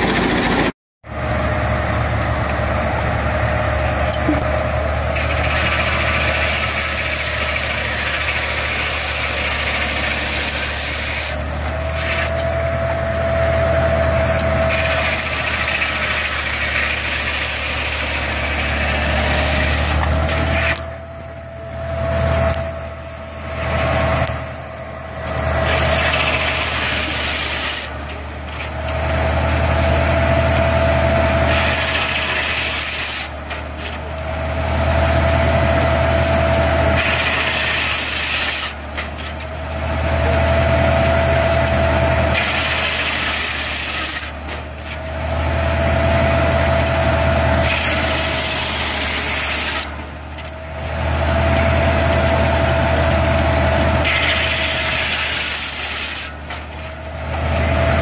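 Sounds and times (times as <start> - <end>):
saw whine cutting wood: 0.0 - 58.0
tractor engine running under load: 0.0 - 58.0.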